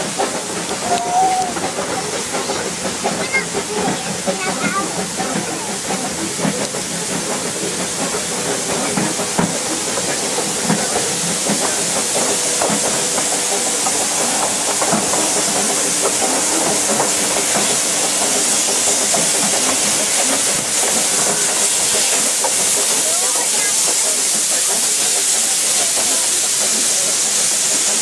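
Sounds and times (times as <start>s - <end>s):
steam hissing: 0.0s - 28.0s.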